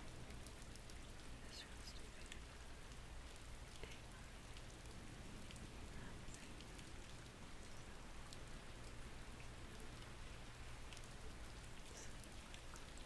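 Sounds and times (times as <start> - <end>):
low steady rumble: 0.0 - 13.0
rain hiss: 0.0 - 13.0
raindrop ticks: 0.0 - 13.0.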